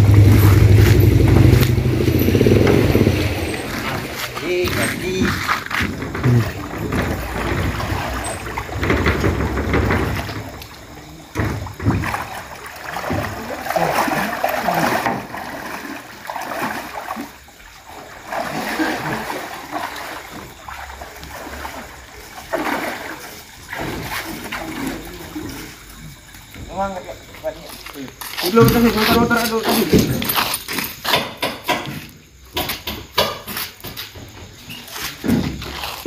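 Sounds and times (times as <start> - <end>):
floodwater splashing and sloshing: 0.0 - 36.0.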